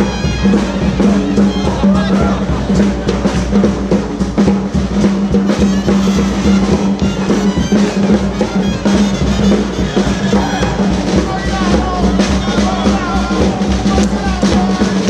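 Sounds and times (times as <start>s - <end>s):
brass band with drums: 0.0s - 15.0s.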